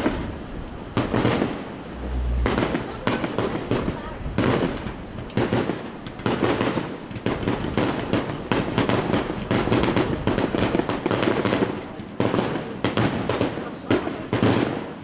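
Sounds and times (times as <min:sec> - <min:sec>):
fireworks crackling pops: 0:00.0 - 0:15.0
fireworks exploding: 0:00.0 - 0:15.0.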